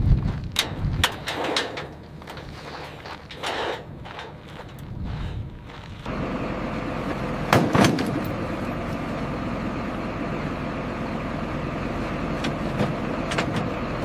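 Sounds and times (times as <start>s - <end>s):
heavy vehicle engine running: 0.4s - 14.0s.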